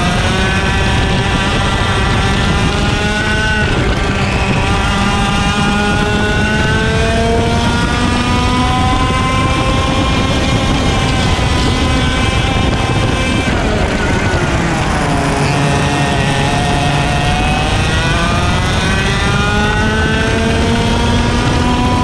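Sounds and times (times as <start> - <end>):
chassis rumble: 0.0 - 22.0
heavy wind: 0.0 - 22.0
kart engine at racing speed: 0.0 - 22.0
other karts' engines: 0.0 - 22.0.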